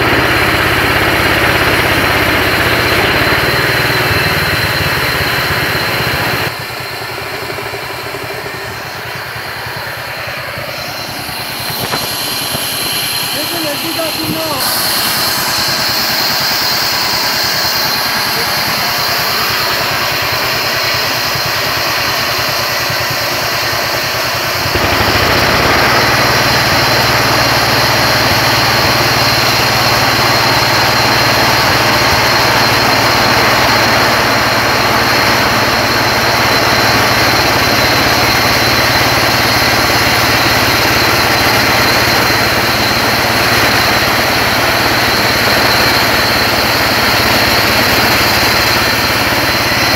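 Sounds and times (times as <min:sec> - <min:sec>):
band sawmill cutting wood: 0:00.0 - 0:49.9.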